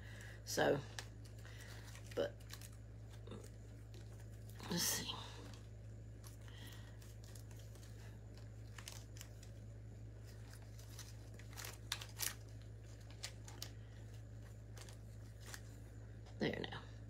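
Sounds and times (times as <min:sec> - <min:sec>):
steady low hum: 0:00.0 - 0:17.0
artificial greenery rustling: 0:00.1 - 0:16.0.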